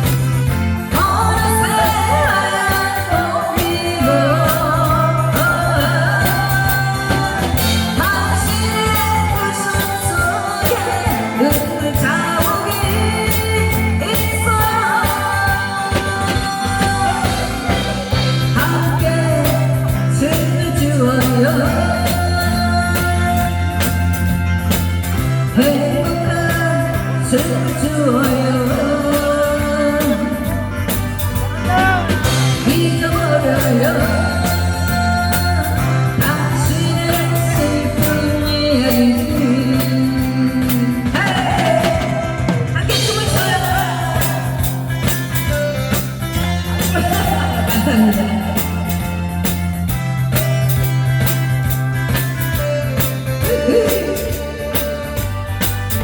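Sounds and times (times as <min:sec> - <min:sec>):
backing music with bass line: 0:00.0 - 0:56.0
person singing: 0:00.8 - 0:24.0, 0:25.5 - 0:49.7, 0:53.1 - 0:55.5.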